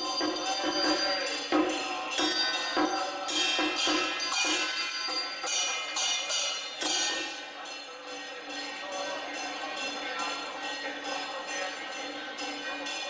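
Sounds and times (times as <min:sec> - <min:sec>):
drums gongs and cymbals beating: 0:00.0 - 0:13.0
ringing cymbal clashes: 0:00.0 - 0:13.0.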